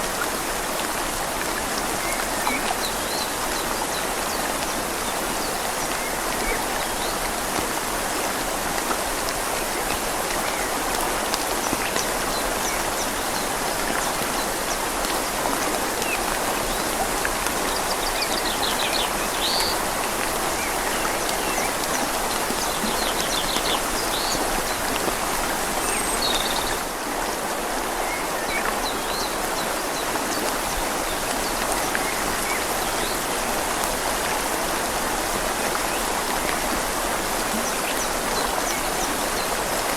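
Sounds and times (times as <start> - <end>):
rain falling on leaves: 0.0 - 39.9
river flowing: 0.0 - 39.9.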